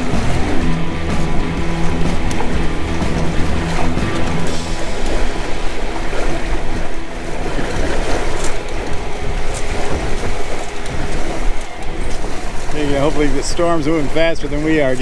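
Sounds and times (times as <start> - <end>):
sharp water splashes: 0.0 - 15.0
water rushing along boat hull: 0.0 - 15.0
wind buffeting microphone: 0.0 - 15.0.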